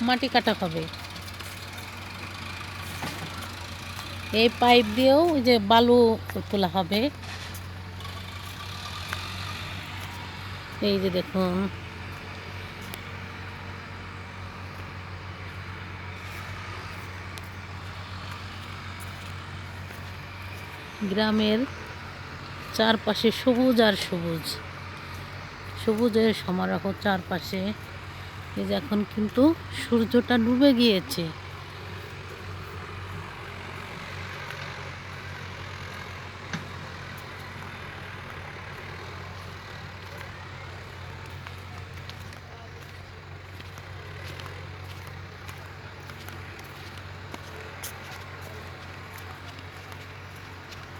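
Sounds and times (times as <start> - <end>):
heavy machinery engine humming: 0.0 - 50.9.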